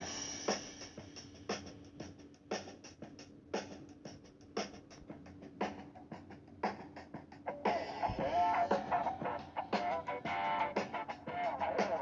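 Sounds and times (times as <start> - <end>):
drum beat: 0.0 - 12.0.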